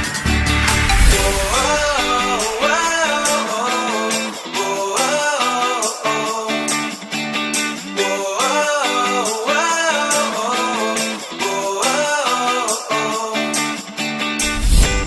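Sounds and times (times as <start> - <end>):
song with plucked guitar: 0.0 - 15.0.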